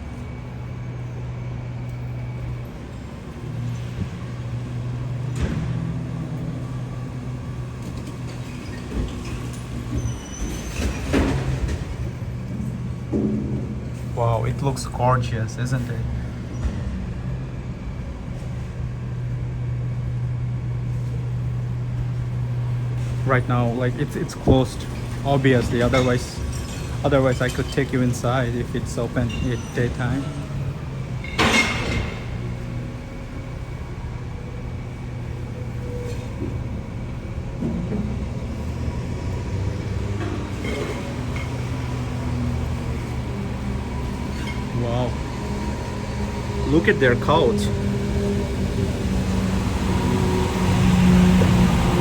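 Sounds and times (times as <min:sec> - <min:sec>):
city street noise: 0:00.0 - 0:52.0.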